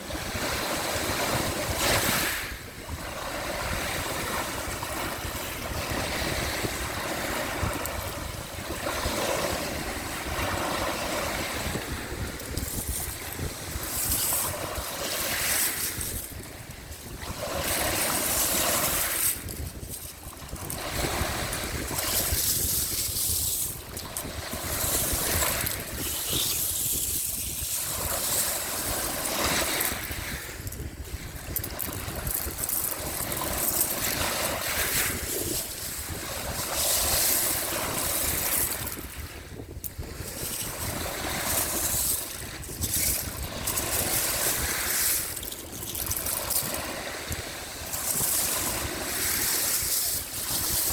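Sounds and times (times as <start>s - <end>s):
sea waves washing ashore: 0.0s - 50.9s
wind rumbling on microphone: 0.0s - 50.9s.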